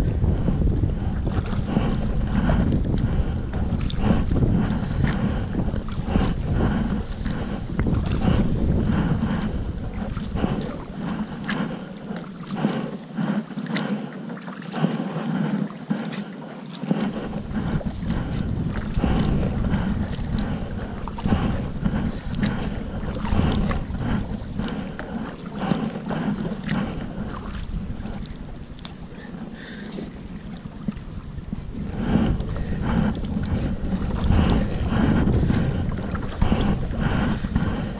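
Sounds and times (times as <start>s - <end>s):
paddle splashes: 0.0s - 37.9s
water lapping against hull: 0.0s - 37.9s
wind buffeting microphone: 0.0s - 37.9s.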